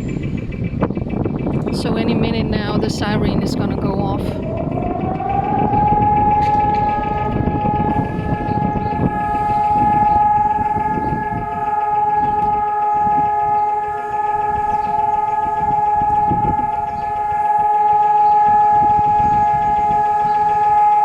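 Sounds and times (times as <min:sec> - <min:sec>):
steady siren tone: 0:00.0 - 0:21.0.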